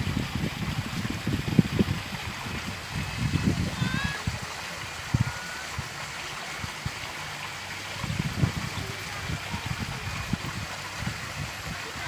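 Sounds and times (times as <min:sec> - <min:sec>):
wind buffeting microphone: 0:00.0 - 0:06.0, 0:06.6 - 0:12.0
open-air hiss: 0:00.0 - 0:12.0.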